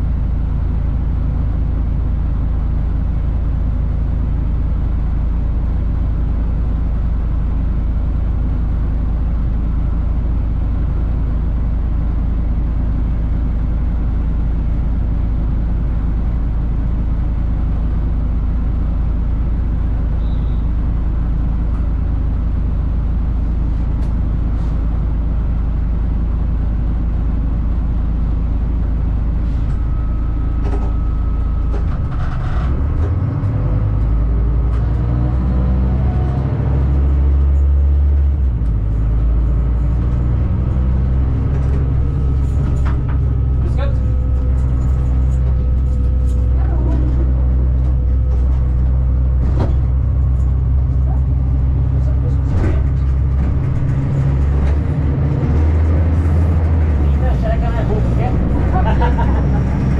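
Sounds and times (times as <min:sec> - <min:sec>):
diesel railcar rumble: 0:00.0 - 0:59.9.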